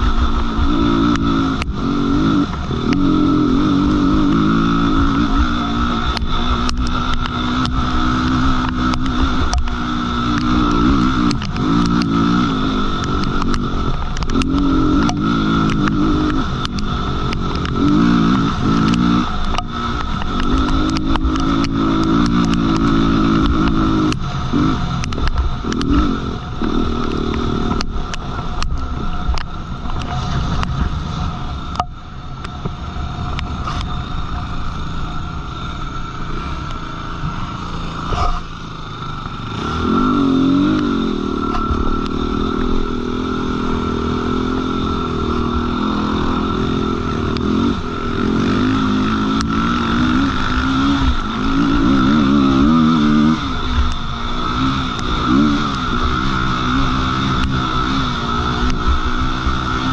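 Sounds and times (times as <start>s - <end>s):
quad engine revving: 0.0s - 30.9s, 33.2s - 59.9s.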